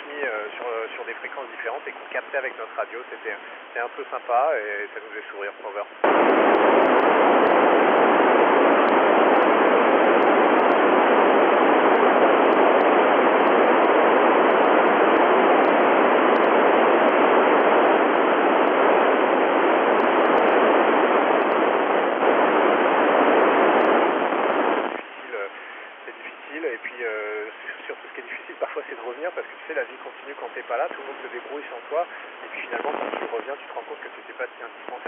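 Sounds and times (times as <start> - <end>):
radio receiver hiss: 0.0 - 35.0.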